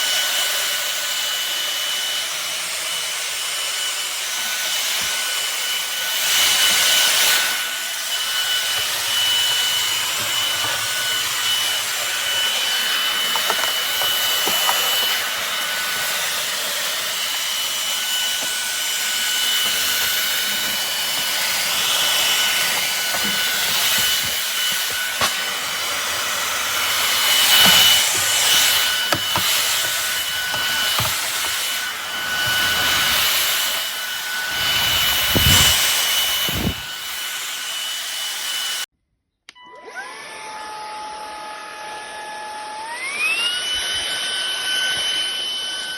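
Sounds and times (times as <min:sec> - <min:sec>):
stick vacuum motor whine: 0:00.0 - 0:38.8, 0:39.5 - 0:45.9.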